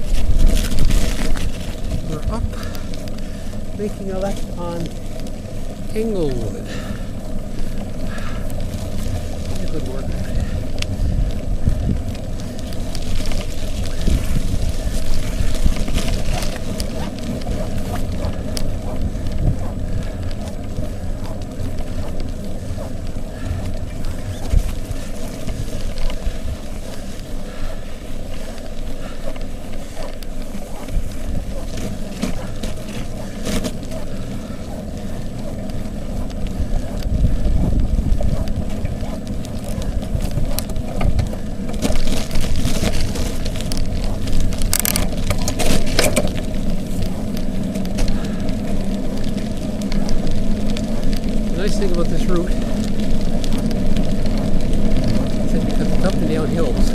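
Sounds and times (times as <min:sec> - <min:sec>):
bicycle tyres rolling on wet pavement: 0:00.0 - 0:56.9
wind buffeting microphone: 0:00.0 - 0:56.9.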